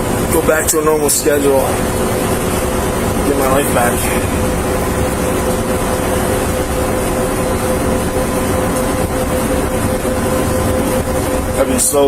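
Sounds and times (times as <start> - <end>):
steady mechanical rumble and hum: 0.0 - 12.0.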